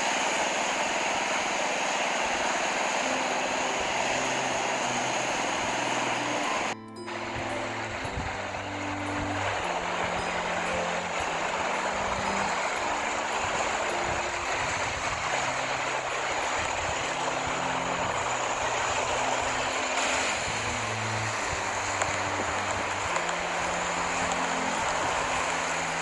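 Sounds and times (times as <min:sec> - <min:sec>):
sea surf: 0:00.0 - 0:26.0
wind: 0:00.0 - 0:26.0
faint low background music: 0:00.5 - 0:26.0.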